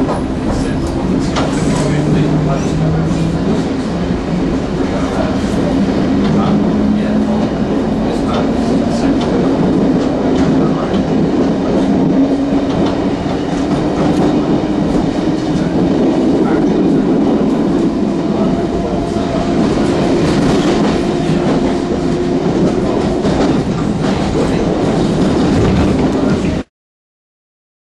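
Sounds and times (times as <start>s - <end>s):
wheels clacking over rails: 0.0s - 26.6s
underground train hum: 0.0s - 26.7s.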